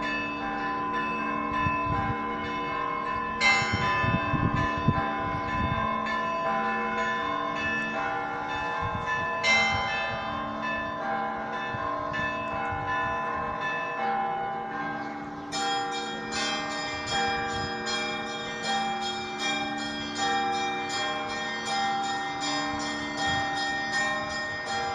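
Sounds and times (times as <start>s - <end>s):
church bells pealing: 0.0s - 24.9s.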